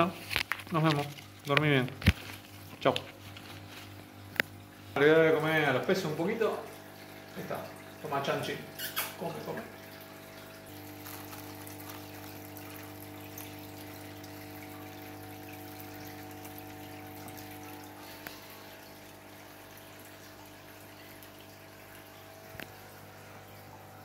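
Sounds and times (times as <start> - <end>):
pump hum: 0.0 - 24.0
water trickling and splashing: 0.0 - 24.0.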